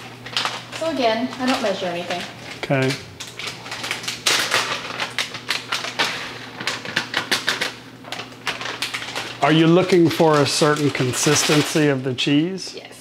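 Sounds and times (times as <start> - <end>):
plastic package crinkling: 0.0 - 12.4.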